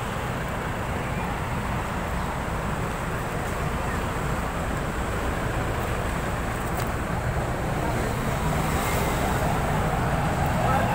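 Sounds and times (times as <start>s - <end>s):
road traffic rumble: 0.0s - 10.9s
vehicle engines running: 0.0s - 10.9s.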